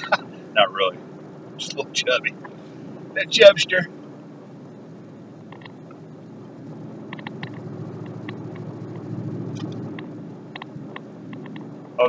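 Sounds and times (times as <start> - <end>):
vehicle cabin road rumble: 0.0 - 12.0.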